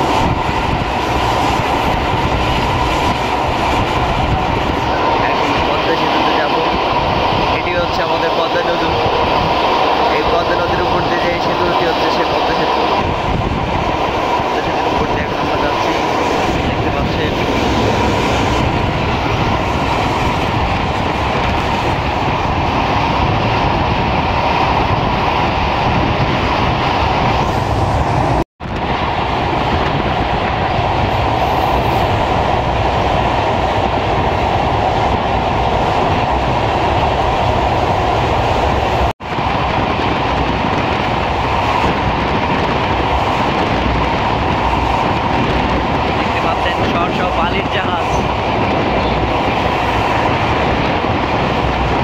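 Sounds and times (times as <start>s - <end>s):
passenger train running: 0.0s - 52.0s.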